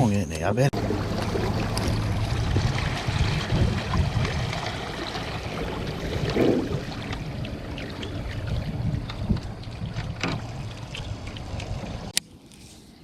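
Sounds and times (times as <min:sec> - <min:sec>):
low wind rumble: 0:00.8 - 0:12.2
water lapping around boat: 0:00.8 - 0:12.2.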